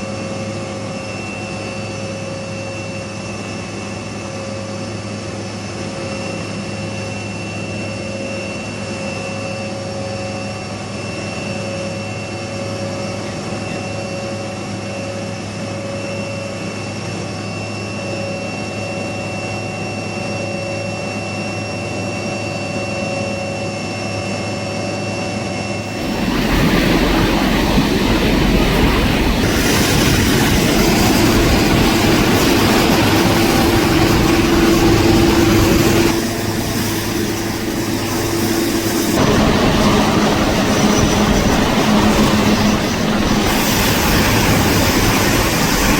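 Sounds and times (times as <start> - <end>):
helicopter turbine and rotor: 0.0 - 45.9.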